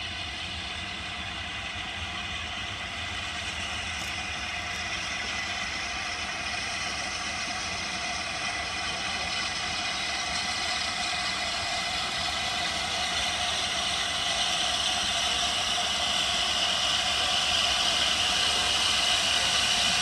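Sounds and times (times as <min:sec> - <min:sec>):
steam locomotive rushing noise: 0:00.0 - 0:20.0.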